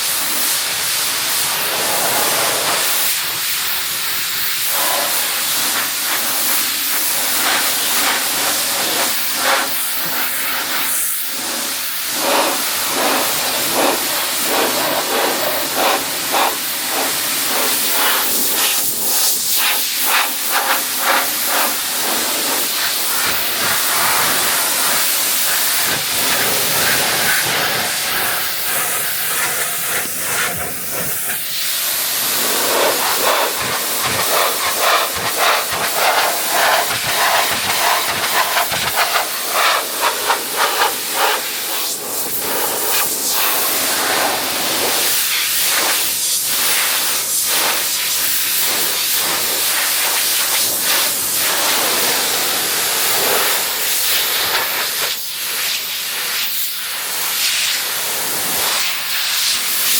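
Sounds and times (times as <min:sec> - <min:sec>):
pressure washer spraying: 0:00.0 - 0:59.9.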